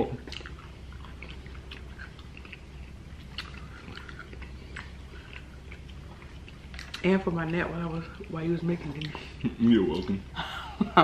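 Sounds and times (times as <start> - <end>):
people chewing: 0.0 - 10.2
low steady hum: 0.0 - 11.0.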